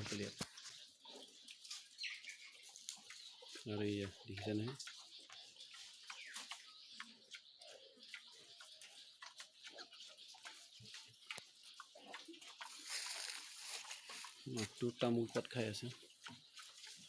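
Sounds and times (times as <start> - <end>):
pigs feeding clicks and rustles: 0.0 - 17.0.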